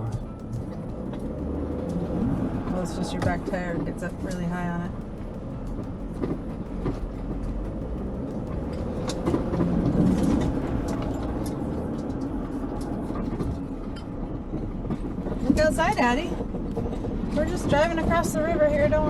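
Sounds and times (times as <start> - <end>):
van engine and road rumble: 0.0 - 19.0.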